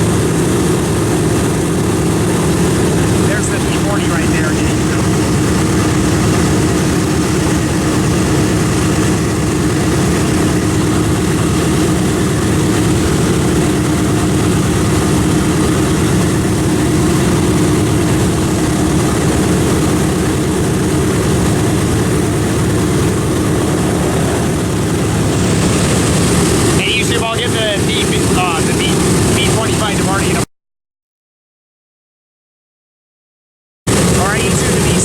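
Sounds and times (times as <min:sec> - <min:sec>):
propeller aircraft engine drone: 0:00.0 - 0:30.5, 0:33.9 - 0:35.0.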